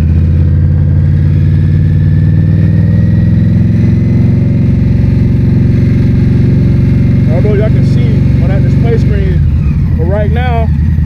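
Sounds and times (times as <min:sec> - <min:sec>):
motorcycle engine at low speed: 0:00.0 - 0:11.0.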